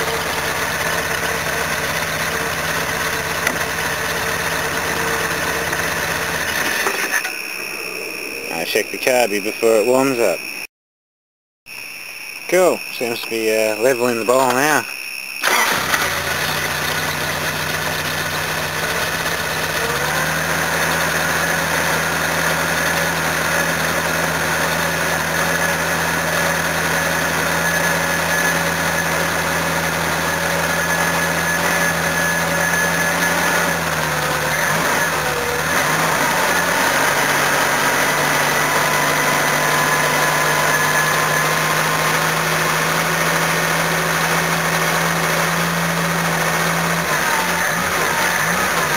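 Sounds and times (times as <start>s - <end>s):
petrol engine idling: 0.0s - 8.7s, 15.4s - 48.9s.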